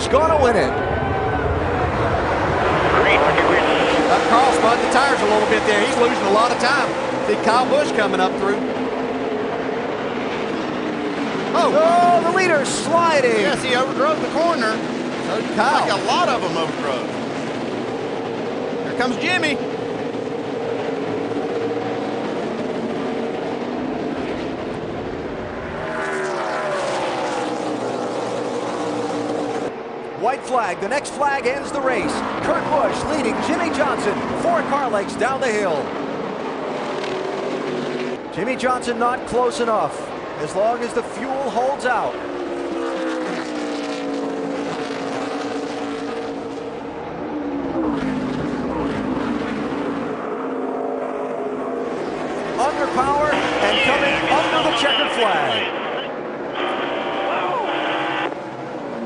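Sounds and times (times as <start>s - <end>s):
race car engines: 0.0s - 59.0s
race car passing close: 0.0s - 59.0s.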